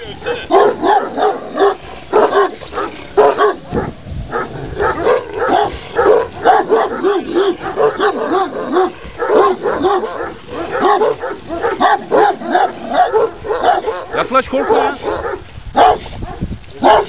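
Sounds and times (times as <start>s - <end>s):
dog barking rapidly: 0.0s - 17.0s.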